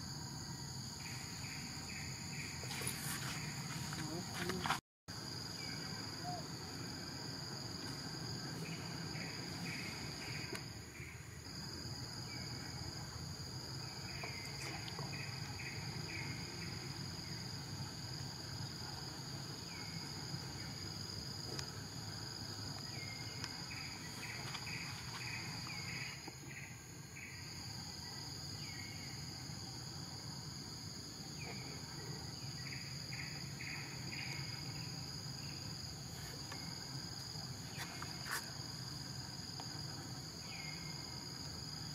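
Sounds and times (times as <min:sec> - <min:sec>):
insects droning: 0:00.0 - 0:41.9
quick insect chirps: 0:00.0 - 0:41.9.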